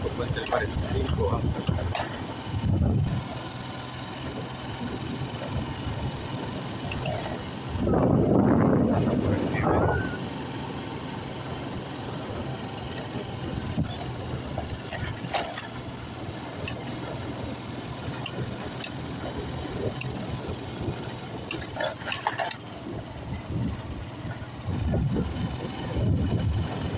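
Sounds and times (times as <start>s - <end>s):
road noise: 0.0s - 26.9s
vehicle engine running: 0.0s - 26.9s.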